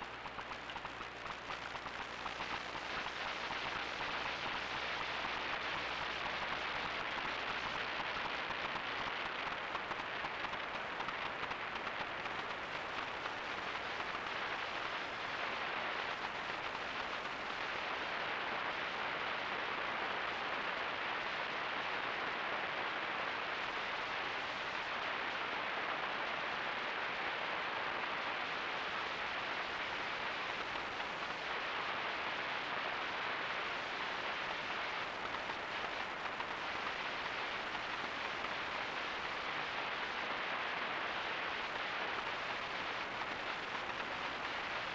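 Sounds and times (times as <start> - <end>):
steady hiss: 0.0 - 44.9.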